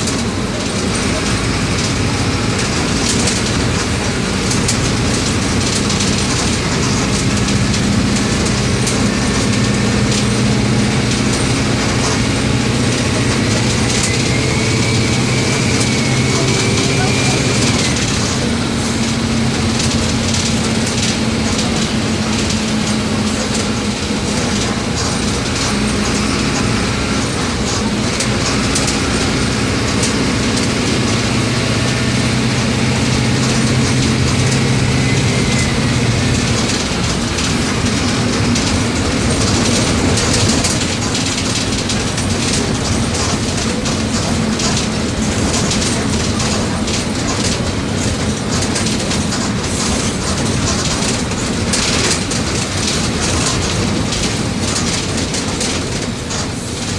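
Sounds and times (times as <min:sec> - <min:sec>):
bus diesel engine running: 0:00.0 - 0:56.9
rattling and clicking: 0:00.0 - 0:56.9.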